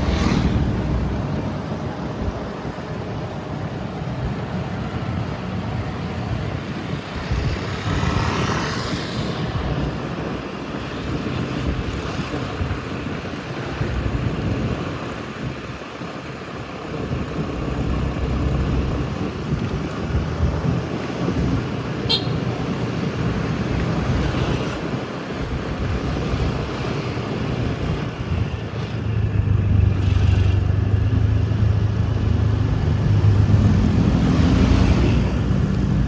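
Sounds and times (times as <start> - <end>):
vehicle passing rush: 0.0 - 36.0
wind buffeting microphone: 0.0 - 36.0.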